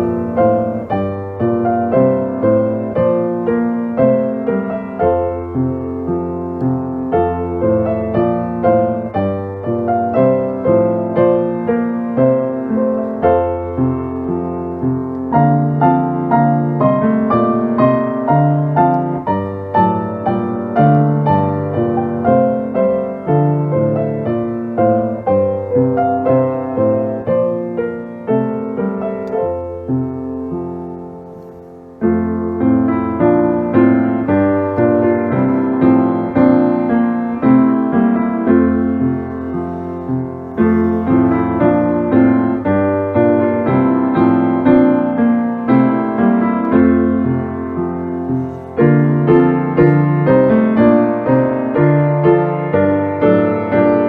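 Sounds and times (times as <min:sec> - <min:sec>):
slow hymn-like piano chords: 0:00.0 - 0:54.0.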